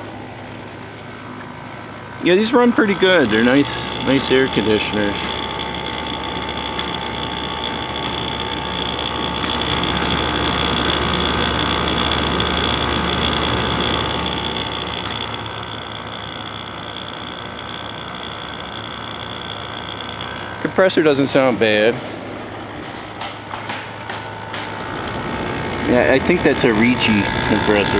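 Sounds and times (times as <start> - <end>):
air conditioner humming and whining: 0.0 - 27.9.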